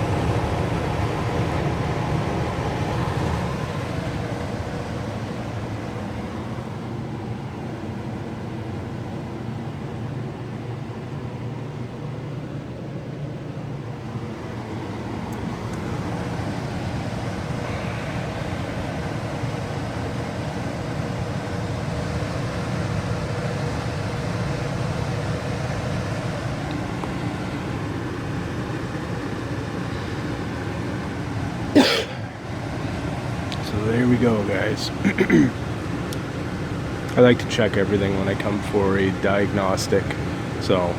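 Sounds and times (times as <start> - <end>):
gas furnace rumbling: 0.0 - 40.9.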